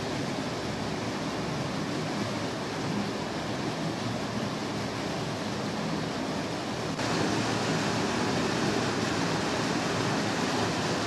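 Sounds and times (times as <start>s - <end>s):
waterfall rushing through rock gorge: 0.0s - 11.0s.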